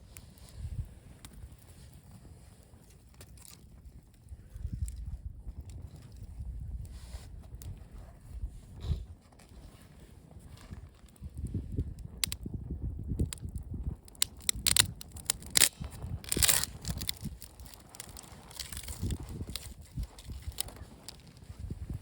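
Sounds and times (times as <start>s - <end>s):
campfire crackling: 0.0s - 22.0s
fire pops and snaps: 0.0s - 22.0s.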